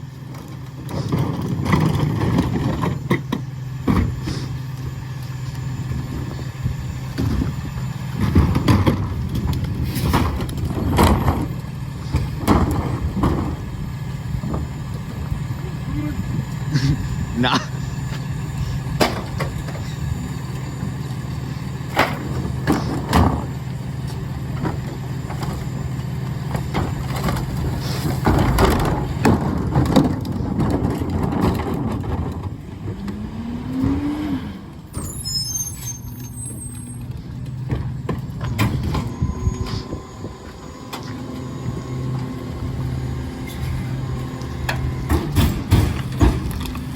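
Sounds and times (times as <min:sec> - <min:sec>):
garbage truck engine hum: 0:00.0 - 0:46.9.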